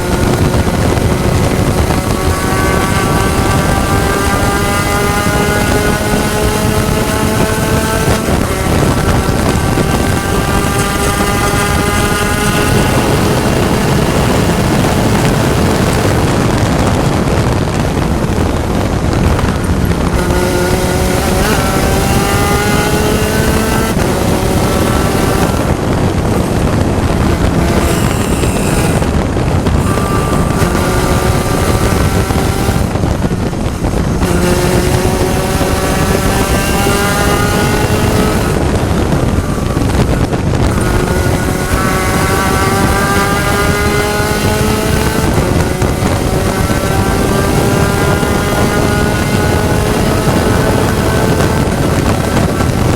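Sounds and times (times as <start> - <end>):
race car engine revving: 0.0 - 52.9
wind and road noise: 0.0 - 52.9.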